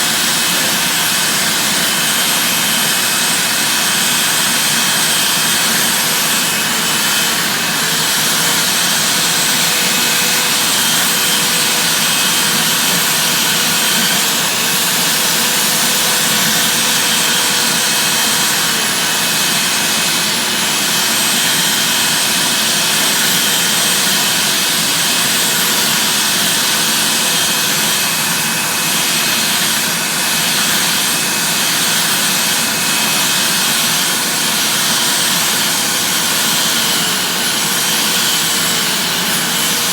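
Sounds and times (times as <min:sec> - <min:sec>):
electric drill spinning brush on carpet: 0:00.0 - 0:39.9
vacuum cleaner with high whine: 0:00.0 - 0:39.9.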